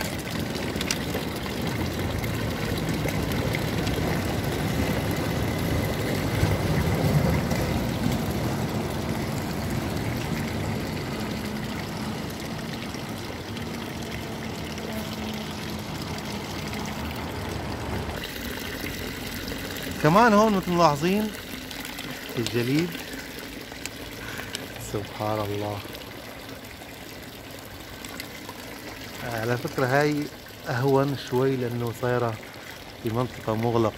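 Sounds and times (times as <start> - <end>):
fountain water splashing into basin: 0.0 - 33.9.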